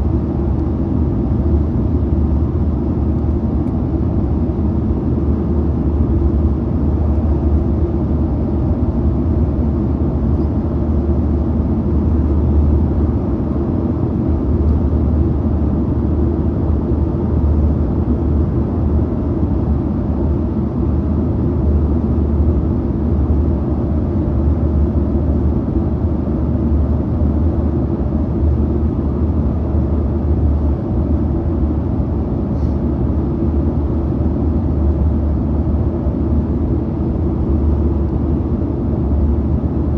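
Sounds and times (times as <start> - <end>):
airplane cabin roar: 0.0 - 39.9.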